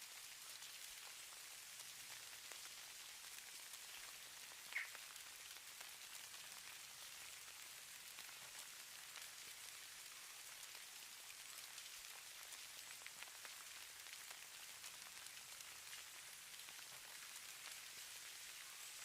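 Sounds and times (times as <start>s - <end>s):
falling snow hissing and ticking: 0.0s - 19.0s.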